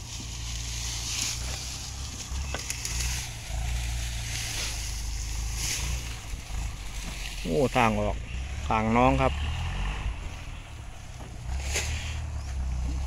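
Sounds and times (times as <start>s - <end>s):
heavy machinery engine rumble: 0.0s - 13.0s.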